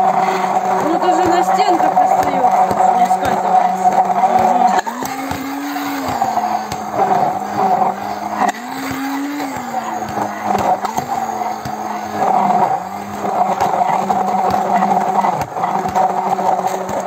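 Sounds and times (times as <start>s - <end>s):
immersion blender motor whine: 0.0s - 17.0s.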